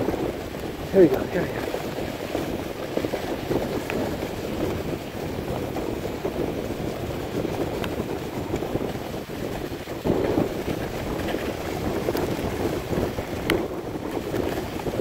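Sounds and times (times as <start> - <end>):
sled runners scraping on snow: 0.0 - 15.0
wind buffeting microphone: 0.0 - 15.0.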